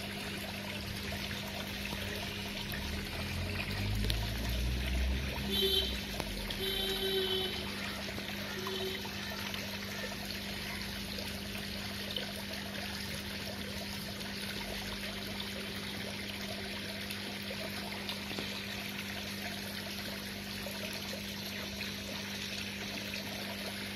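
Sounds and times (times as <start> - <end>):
water trickling into pond: 0.0 - 23.9.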